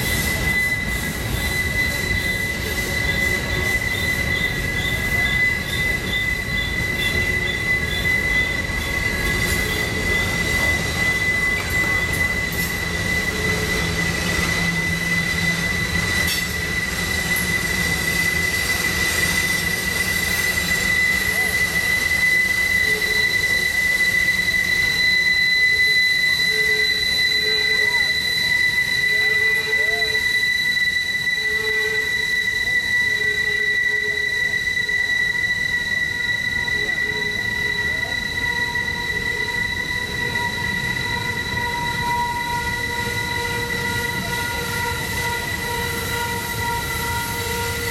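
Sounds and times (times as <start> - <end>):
rumble of wheels on track: 0.0 - 47.9
train wheels squealing on rails: 0.0 - 47.9.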